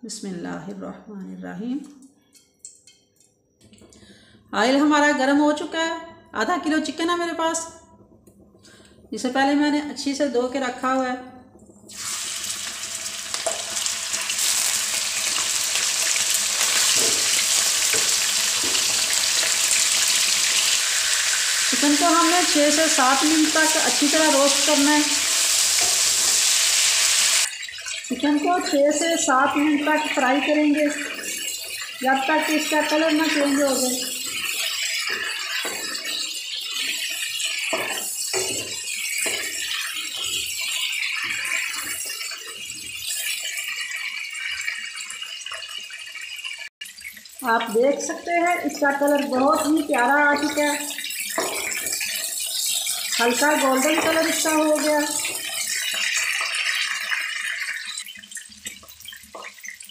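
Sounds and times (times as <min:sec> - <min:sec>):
chicken sizzling in hot oil: 0:11.8 - 0:59.9.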